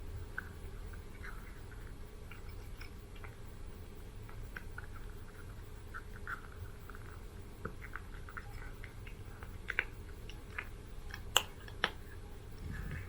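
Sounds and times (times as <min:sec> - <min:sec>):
cat chewing food: 0:00.3 - 0:13.0.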